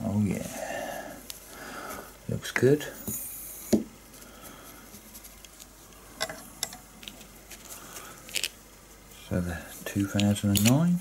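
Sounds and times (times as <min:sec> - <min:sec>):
soft handling noise: 0:00.1 - 0:11.0.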